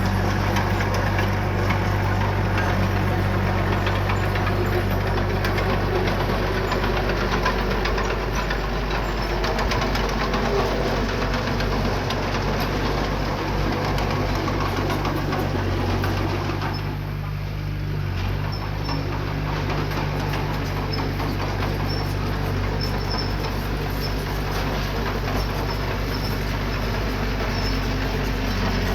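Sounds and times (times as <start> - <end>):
diesel engine running under load: 0.0 - 28.9.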